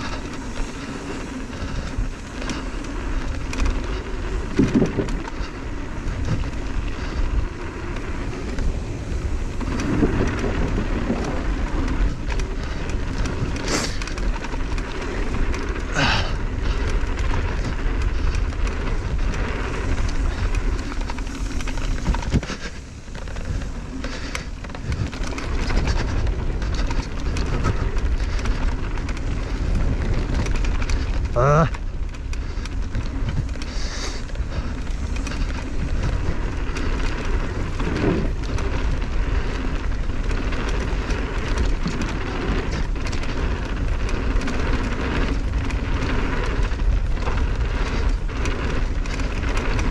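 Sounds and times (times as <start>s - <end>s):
bike tyres rattling on dirt: 0.0s - 49.9s
wind buffeting microphone: 0.0s - 49.9s.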